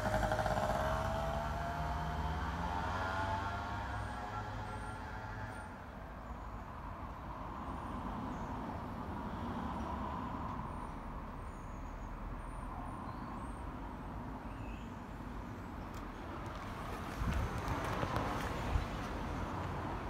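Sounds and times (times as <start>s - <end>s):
distant vehicle rumble: 0.0s - 14.4s, 15.0s - 20.0s.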